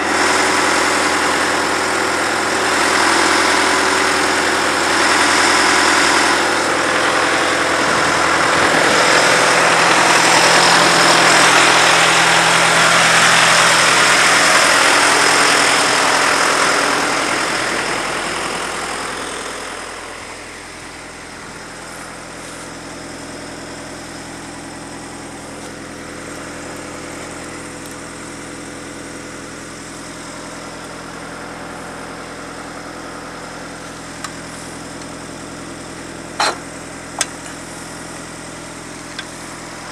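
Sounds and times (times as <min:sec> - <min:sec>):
drill rig engine idling: 0:00.0 - 0:39.9.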